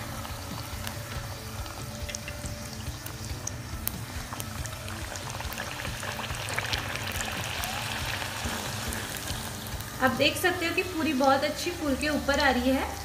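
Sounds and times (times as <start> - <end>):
hot oil sizzling and popping: 0.0 - 13.0.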